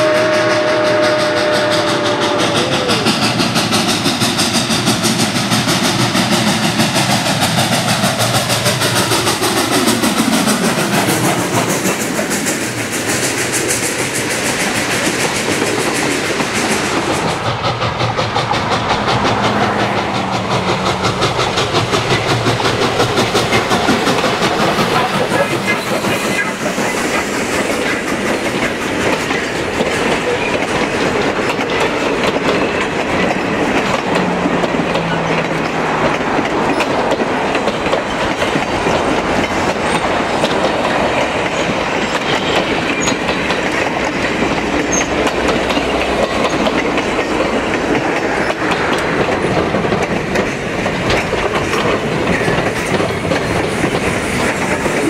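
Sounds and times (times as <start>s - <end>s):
train wheels clacking over rail joints: 0.0s - 55.0s.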